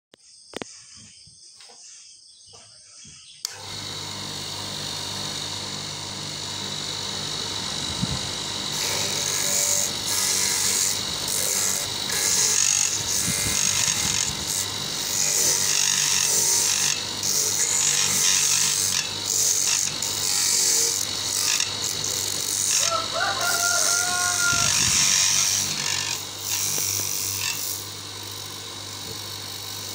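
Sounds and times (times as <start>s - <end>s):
grater motor humming: 3.4s - 29.9s.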